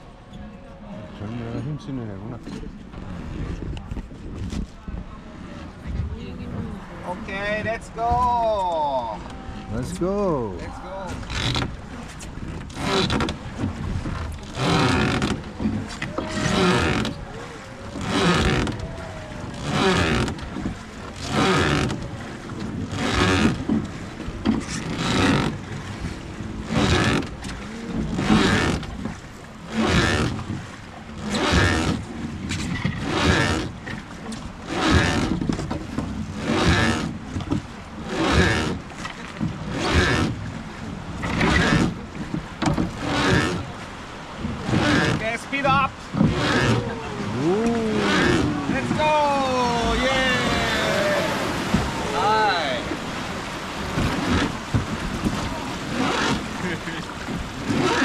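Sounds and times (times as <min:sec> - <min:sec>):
oars splashing in water: 0:01.1 - 0:58.0.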